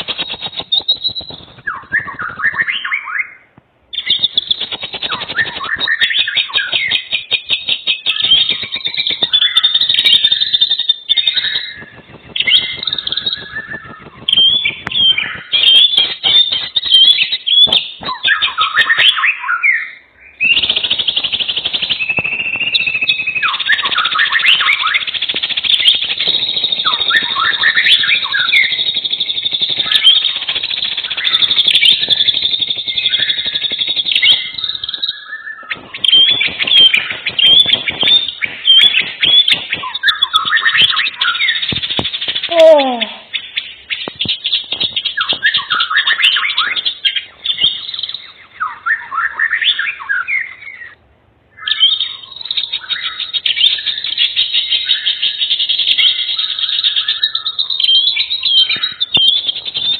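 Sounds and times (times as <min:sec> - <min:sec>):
songbirds chirping in chorus: 0:00.0 - 0:59.9.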